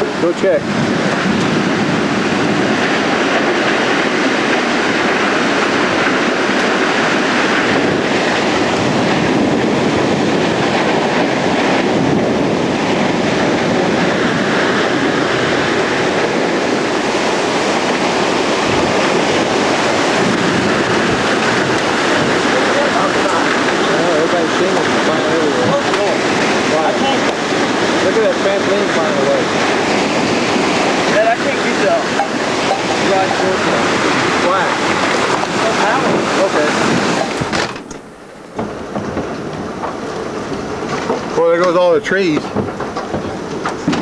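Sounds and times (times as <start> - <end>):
loud rushing tornado wind: 0.0 - 44.0.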